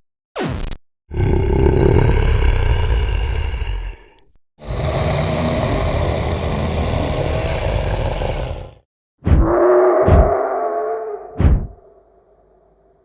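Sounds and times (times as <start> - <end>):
deep rasping dragon growls: 1.1 - 11.8.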